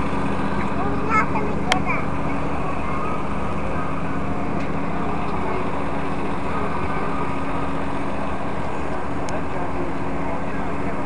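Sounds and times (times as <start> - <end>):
faint distant voices: 0.0 - 11.0
vehicle engine idling: 0.0 - 11.0.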